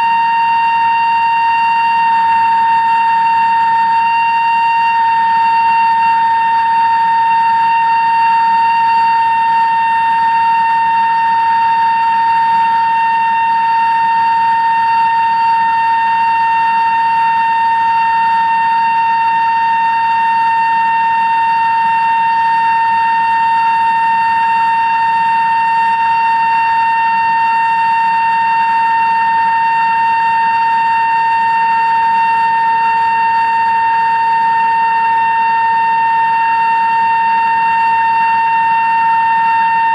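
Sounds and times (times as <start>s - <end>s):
drill cutting steel whine: 0.0s - 39.9s.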